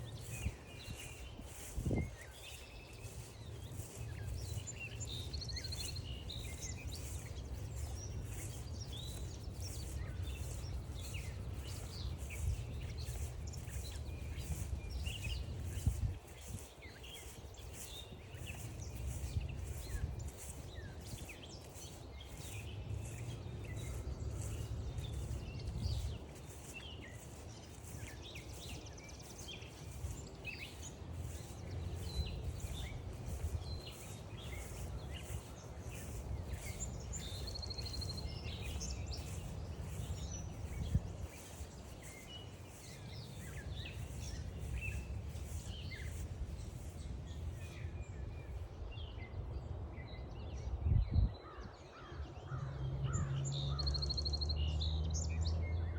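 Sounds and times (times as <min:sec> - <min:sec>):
birds calling and singing: 0:00.0 - 0:55.9.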